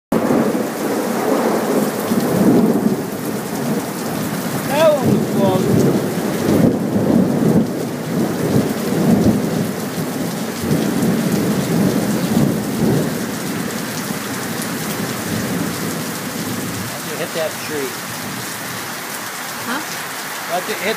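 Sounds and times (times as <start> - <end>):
heavy rain pouring: 0.1 - 20.9
thunder rumbling: 0.2 - 18.5.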